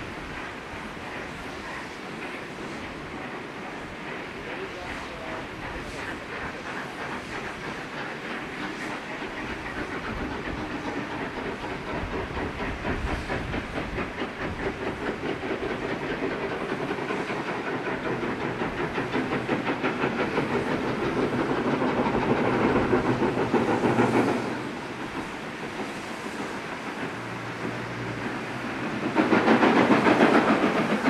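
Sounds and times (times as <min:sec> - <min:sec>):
steam locomotive exhaust beats: 0:00.0 - 0:31.0.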